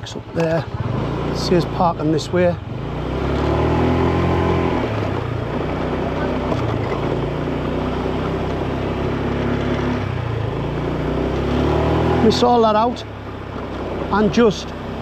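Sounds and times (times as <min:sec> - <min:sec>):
motorbike engine revving: 0:00.0 - 0:15.0
wind and road noise: 0:00.0 - 0:15.0.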